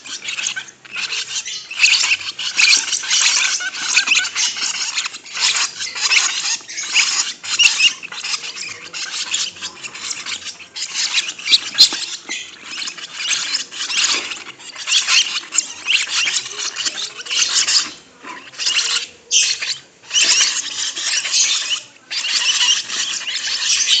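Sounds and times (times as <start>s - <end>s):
lovebirds chattering: 0.0s - 24.0s.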